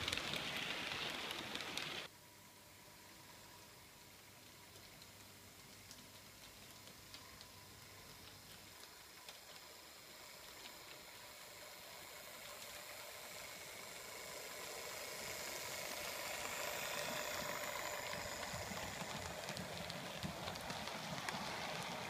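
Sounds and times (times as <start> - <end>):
model train motor hum: 0.0 - 2.1, 2.8 - 22.0
model train wheels rolling on rail: 0.0 - 22.0.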